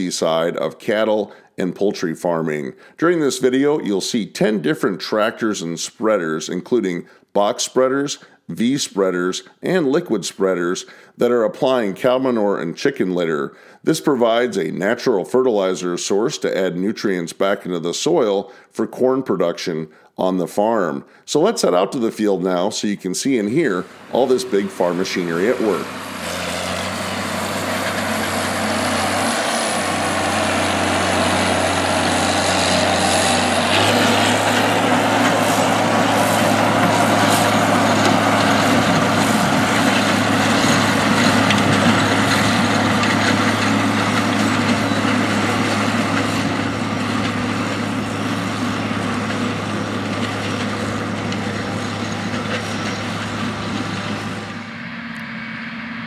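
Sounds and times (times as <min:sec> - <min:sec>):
tractor diesel engine under load: 0:00.0 - 0:15.0, 0:21.4 - 0:56.0.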